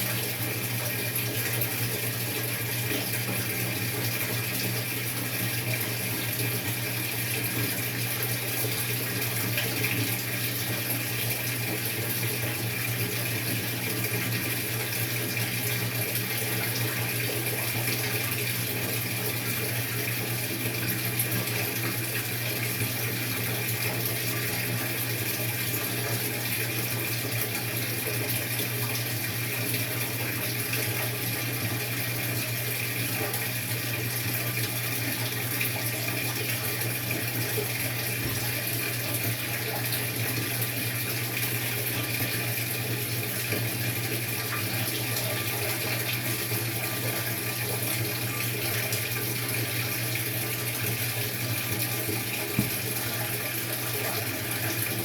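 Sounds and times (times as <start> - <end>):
washing machine hum: 0.0 - 55.0
water rushing in washing machine: 0.0 - 55.0.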